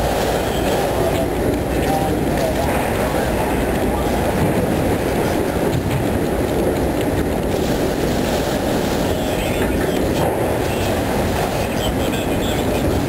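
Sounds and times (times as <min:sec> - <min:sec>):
train wheels on rail: 0:00.0 - 0:13.0
train truck clicks: 0:00.2 - 0:11.2.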